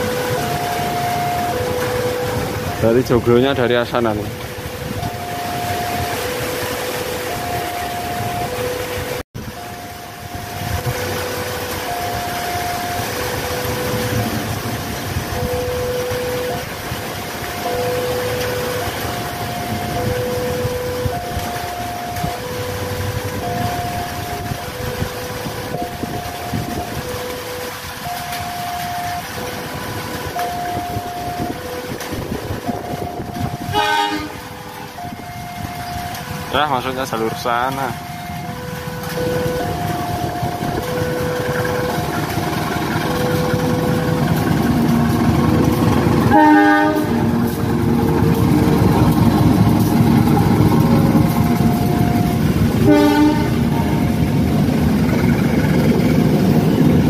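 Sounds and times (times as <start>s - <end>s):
rushing background noise: 0.0s - 57.0s
two-tone warning alarm: 0.0s - 57.0s.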